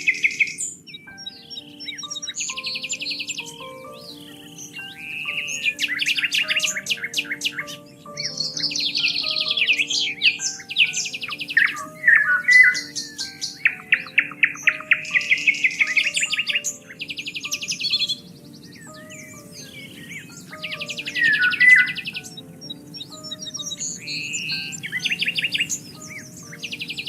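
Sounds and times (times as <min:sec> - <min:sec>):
soft background music: 0:00.0 - 0:27.0
songbirds singing and chirping: 0:00.0 - 0:27.0.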